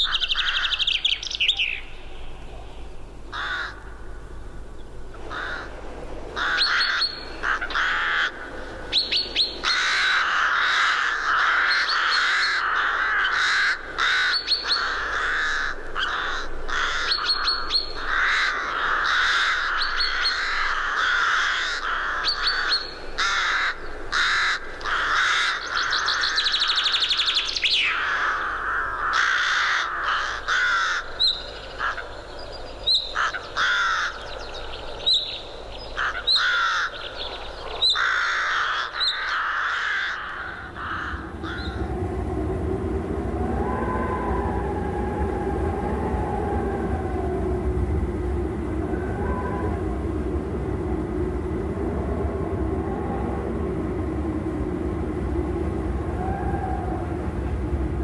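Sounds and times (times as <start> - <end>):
birds calling: 0.0 - 51.6
low steady rumble: 1.6 - 58.0.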